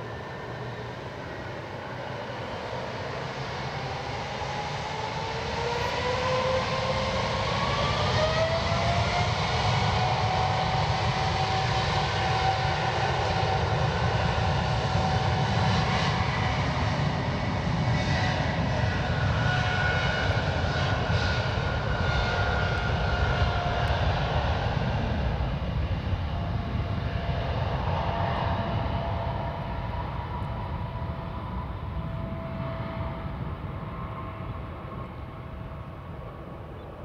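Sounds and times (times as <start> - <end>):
jet engines of passing plane: 0.0 - 37.0.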